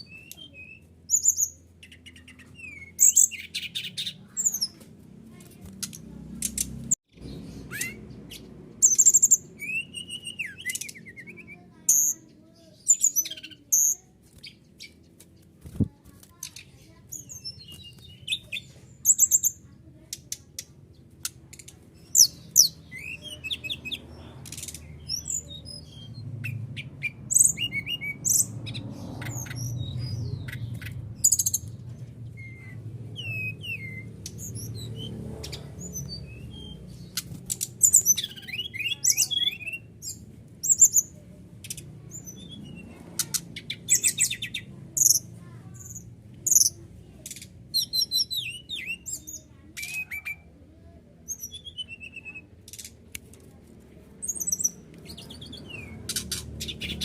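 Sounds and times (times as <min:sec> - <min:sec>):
bird singing high chirps and trills: 0:00.0 - 0:53.0, 0:54.2 - 0:57.0.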